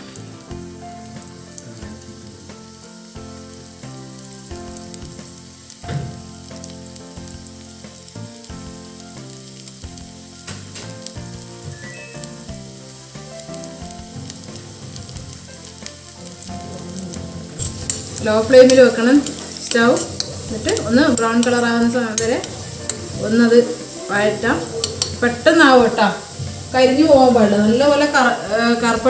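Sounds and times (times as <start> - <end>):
garlic sizzling in hot oil: 0.0 - 29.0
soft background music: 0.0 - 29.0.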